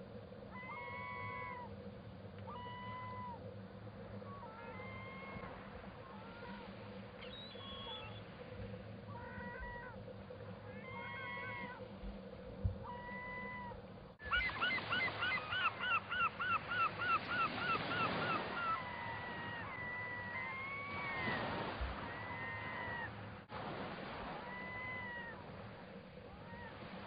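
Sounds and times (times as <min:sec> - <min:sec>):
sea ducks whistling calls: 0:00.5 - 0:01.8, 0:02.4 - 0:27.0.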